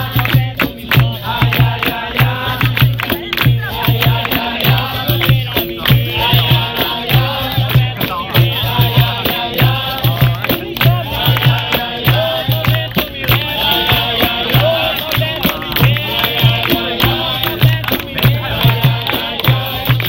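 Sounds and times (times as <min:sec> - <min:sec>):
group singing: 0:00.0 - 0:20.0
low drum beat: 0:00.0 - 0:20.0.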